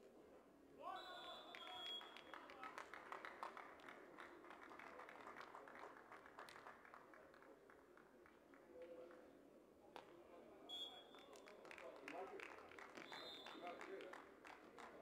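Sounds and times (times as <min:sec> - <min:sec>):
murmur of spectators: 0:00.0 - 0:15.0.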